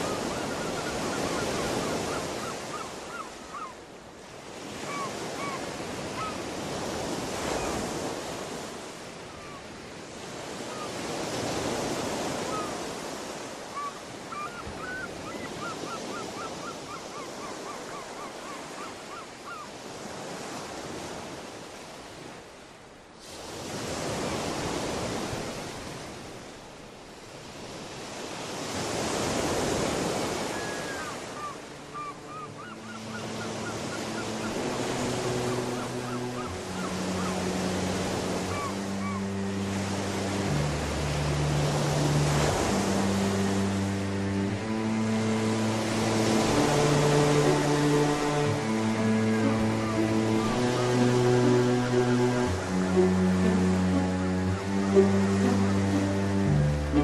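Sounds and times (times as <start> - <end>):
ocean waves washing in: 0.0 - 16.2, 19.8 - 57.0.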